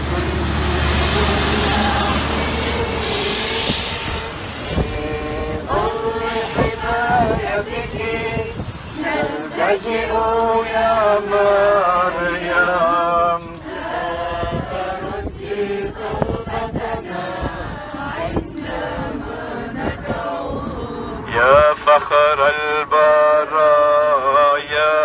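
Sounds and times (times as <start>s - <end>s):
group singing a hymn: 0.0s - 25.0s.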